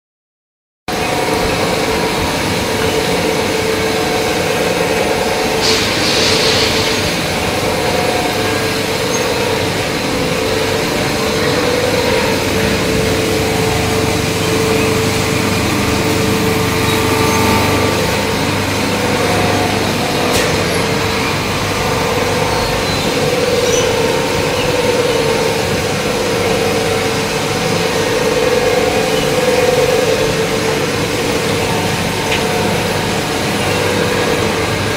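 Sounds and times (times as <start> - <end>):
machinery drone: 0.9 - 34.9.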